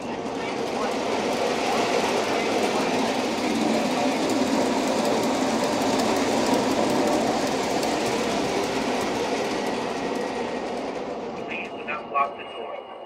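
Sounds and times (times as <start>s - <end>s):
model train electric motors: 0.0s - 12.8s
model train wheels on rails: 0.0s - 12.8s.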